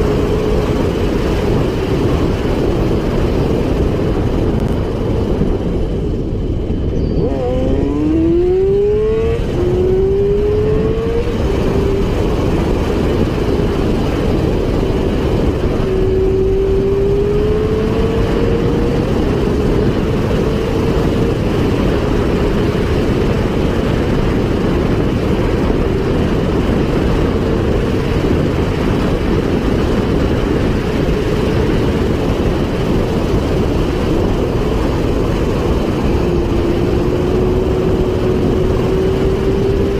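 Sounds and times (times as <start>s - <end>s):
motorcycle engine accelerating: 0.0s - 39.9s
wind noise rushing: 0.0s - 39.9s.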